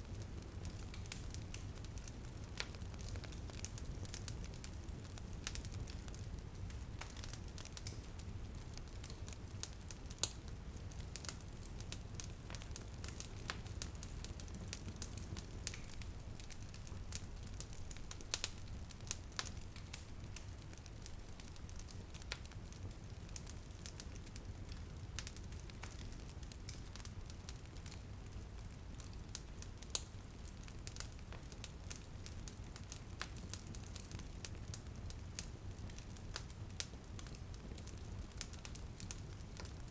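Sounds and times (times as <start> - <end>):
light rain on a window: 0.0 - 39.9
wood fire crackling: 0.0 - 39.9.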